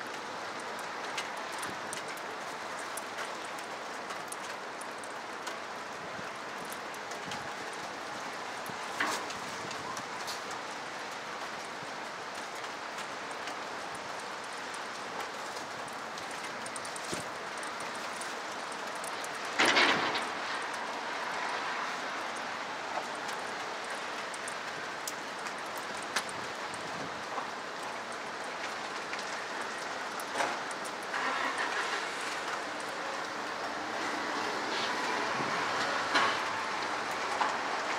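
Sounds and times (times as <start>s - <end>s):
distant city traffic hum: 0.0s - 37.9s
rain hissing: 0.0s - 37.9s
raindrops ticking: 0.0s - 37.9s.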